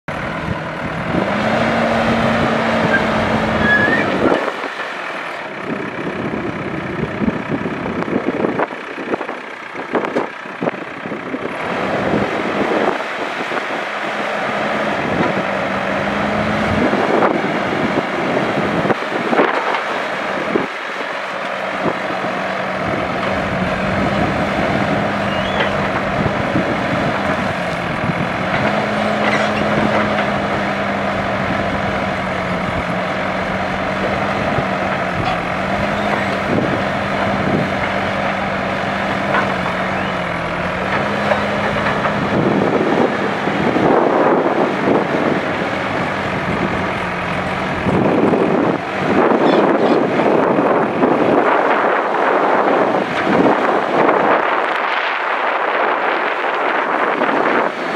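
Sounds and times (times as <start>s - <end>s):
diesel engine running under load: 0.1s - 57.9s.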